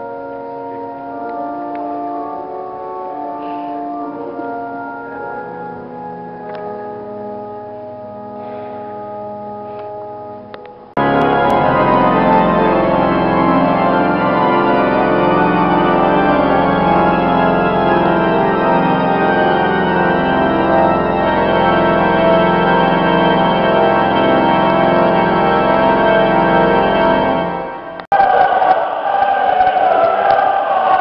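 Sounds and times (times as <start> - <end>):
pipe organ sustained chords: 0.0 - 28.6.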